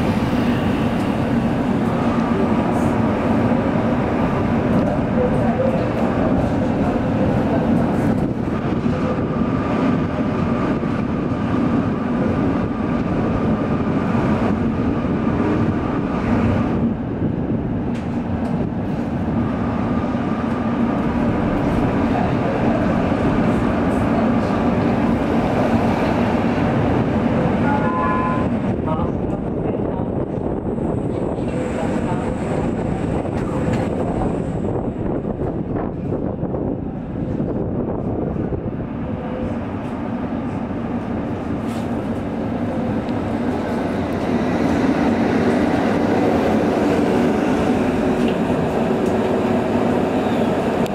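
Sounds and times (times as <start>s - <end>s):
tram wheels rumbling on tracks: 0.0s - 50.9s.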